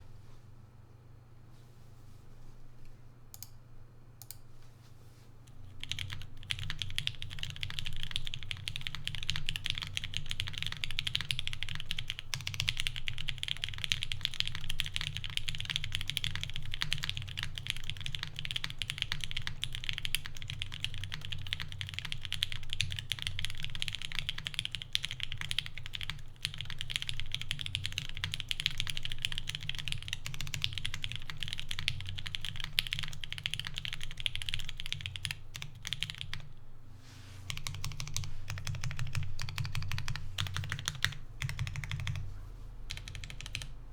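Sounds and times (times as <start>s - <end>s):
mechanical keyboard typing: 5.7s - 36.6s, 37.5s - 42.3s, 42.9s - 43.7s.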